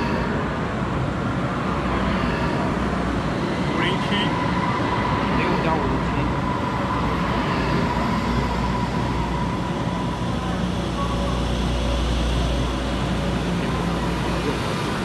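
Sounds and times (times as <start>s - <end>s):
electric train wheels rumbling: 0.0s - 15.0s.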